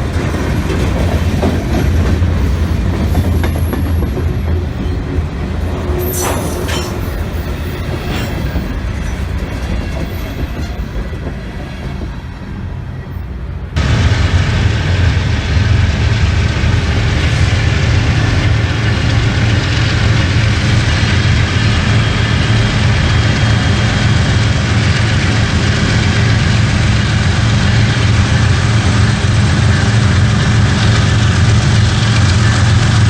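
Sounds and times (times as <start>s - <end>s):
diesel locomotive engines rumbling: 0.0s - 33.0s
railroad cars clattering past: 0.0s - 33.0s.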